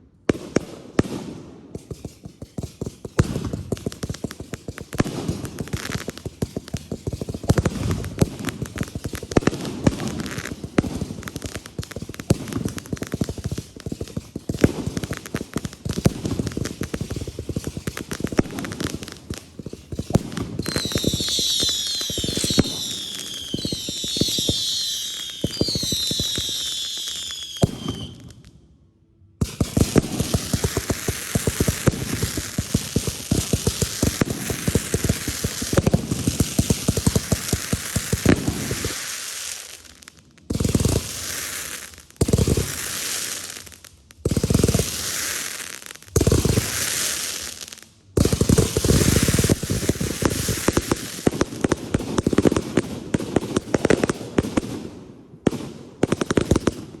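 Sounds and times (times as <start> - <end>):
fireworks crackling and popping: 0.0 - 28.6, 29.4 - 57.0
whistling fireworks: 0.0 - 28.8, 29.4 - 57.0.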